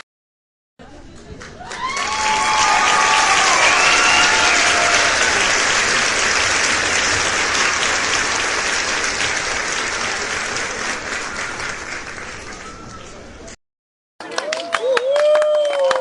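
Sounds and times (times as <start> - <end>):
crowd applauding: 1.1 - 13.6, 14.2 - 16.0.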